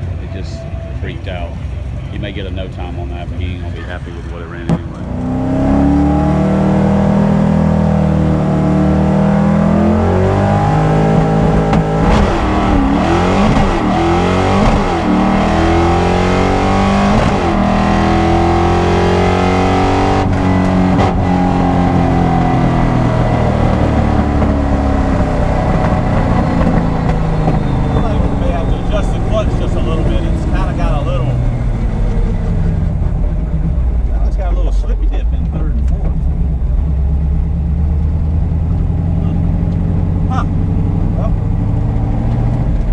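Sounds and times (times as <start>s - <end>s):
race car engines revving: 0.0s - 42.9s.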